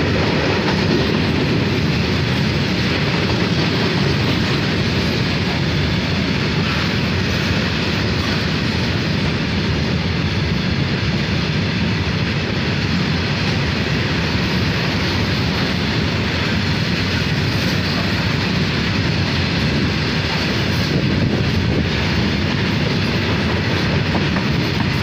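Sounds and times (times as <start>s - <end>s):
train wheels running on rails: 0.0s - 25.0s.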